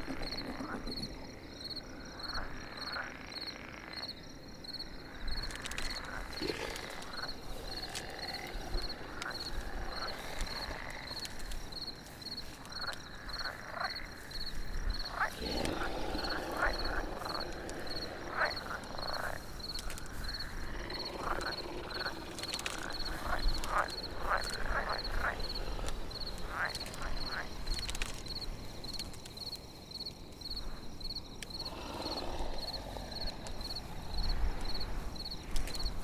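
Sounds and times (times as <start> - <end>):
frogs croaking: 0.0 - 36.0
high insect chirping: 0.0 - 36.0.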